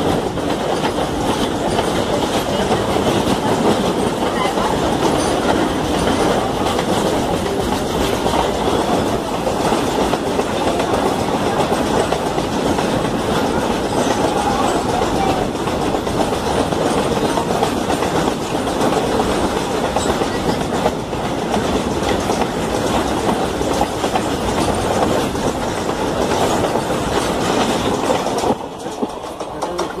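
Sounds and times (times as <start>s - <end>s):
train wheels clattering over rail joints: 0.0s - 30.0s.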